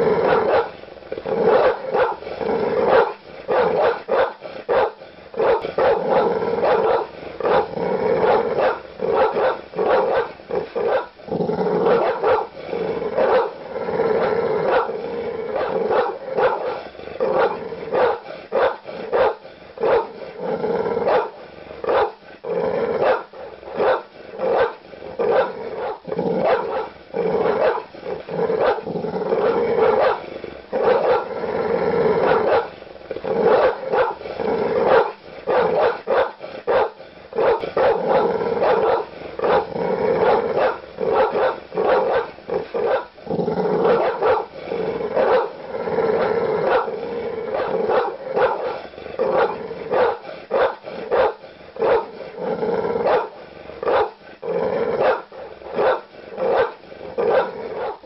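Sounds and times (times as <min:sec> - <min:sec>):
large dog barking: 0:00.0 - 0:22.2, 0:22.8 - 0:58.0
dog growling: 0:00.0 - 0:58.0.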